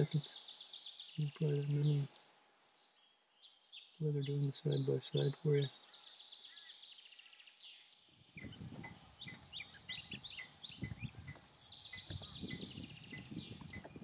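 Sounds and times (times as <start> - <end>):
birds chirping and twittering: 0.0 - 14.0.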